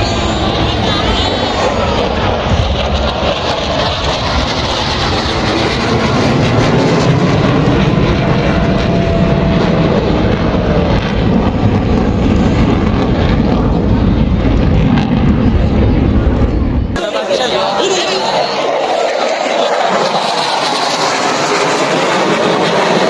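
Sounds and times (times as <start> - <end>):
military aircraft flying over: 0.0 - 23.0.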